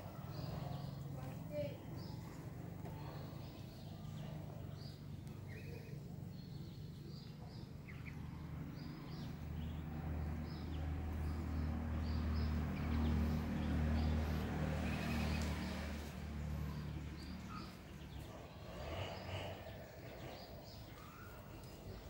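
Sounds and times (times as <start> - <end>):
ducklings peeping: 2.0 - 22.0.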